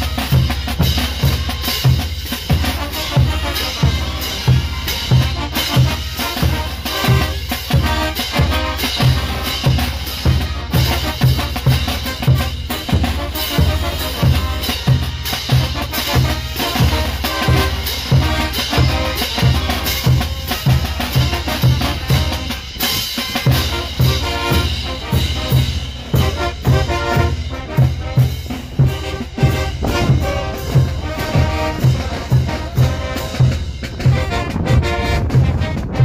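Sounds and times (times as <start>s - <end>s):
bass drums beating: 0.0s - 36.0s
brass band playing: 0.0s - 36.0s
snare drum: 0.0s - 36.0s.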